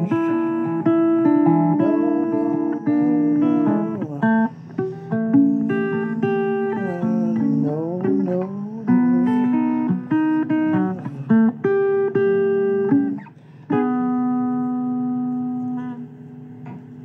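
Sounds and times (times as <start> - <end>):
blues guitar playing: 0.0 - 17.0.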